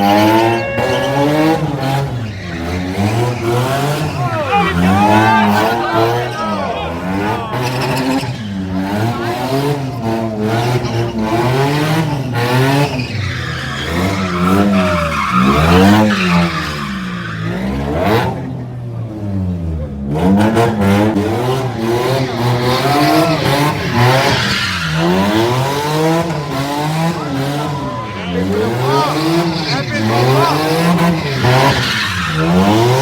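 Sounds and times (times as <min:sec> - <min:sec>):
tyres spinning and squealing: 0:00.0 - 0:18.8, 0:20.5 - 0:33.0
car engine revving: 0:00.0 - 0:33.0.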